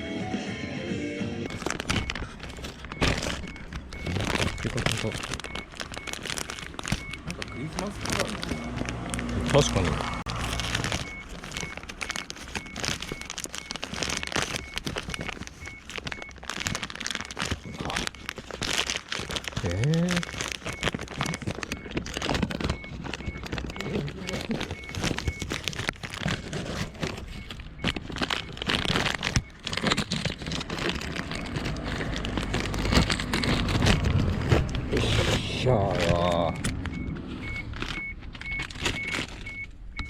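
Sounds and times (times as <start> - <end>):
crinkling and rustling: 1.5 - 40.0.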